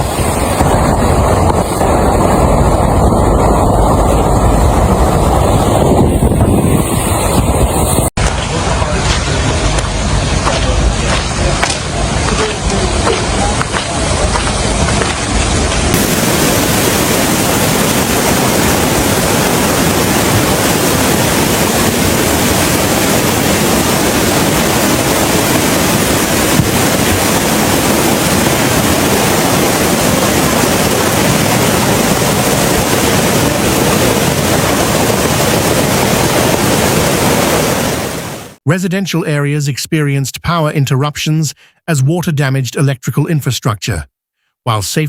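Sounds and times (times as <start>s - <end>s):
water rushing: 0.0s - 38.6s.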